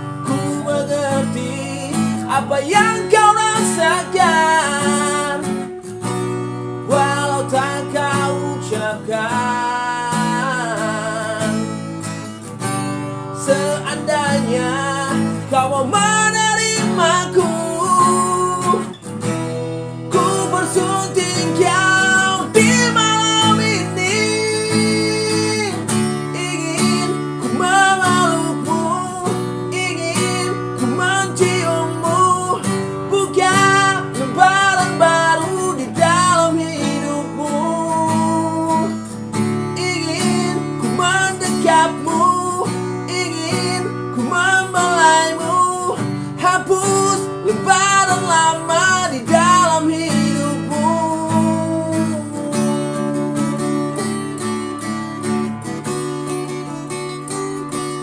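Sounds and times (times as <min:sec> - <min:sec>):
person singing: 0:00.0 - 0:58.0
plucked acoustic guitar: 0:00.0 - 0:58.0.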